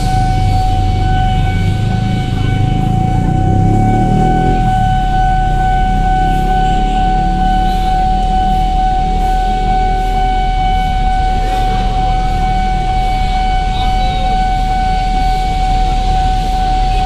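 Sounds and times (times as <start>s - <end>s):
level-crossing alarm tone: 0.0s - 17.0s
low rumble: 0.0s - 17.0s.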